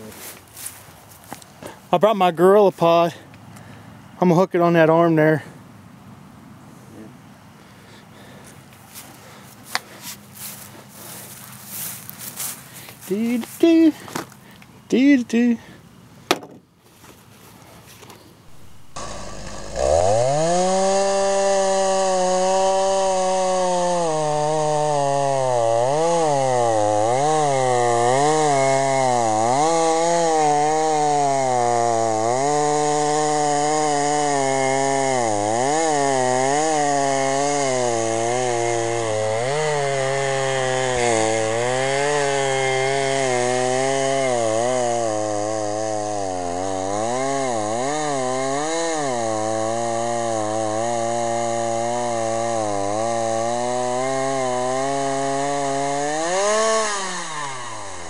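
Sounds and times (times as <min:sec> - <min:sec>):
chainsaw cutting through a log: 0:00.0 - 0:01.9, 0:07.7 - 0:15.8, 0:18.5 - 0:58.0.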